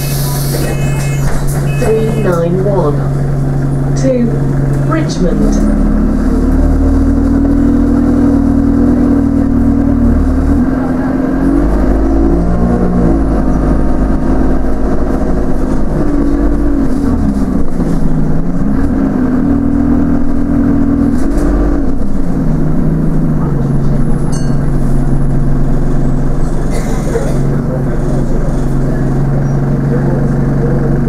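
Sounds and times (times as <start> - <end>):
bus diesel engine: 0.0 - 31.0.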